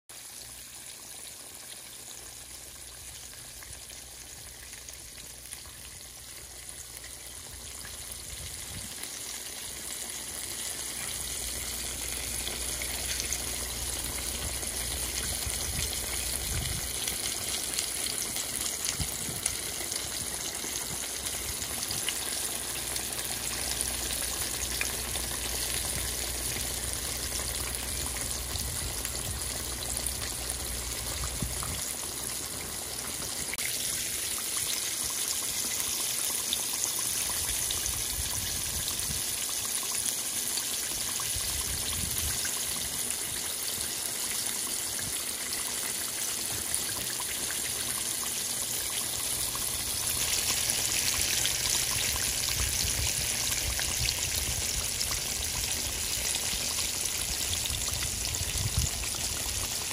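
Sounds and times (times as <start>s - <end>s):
fish sizzling in hot oil: 0.1s - 59.9s.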